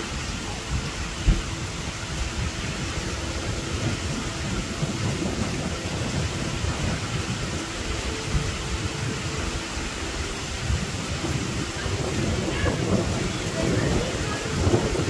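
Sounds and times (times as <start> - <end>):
thunder rumble: 0.0 - 15.0
torrential rain: 0.0 - 15.0
wind gusts: 0.0 - 15.0.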